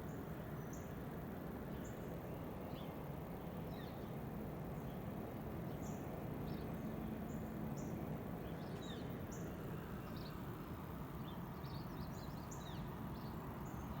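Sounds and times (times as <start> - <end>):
low outdoor background noise: 0.0 - 14.0.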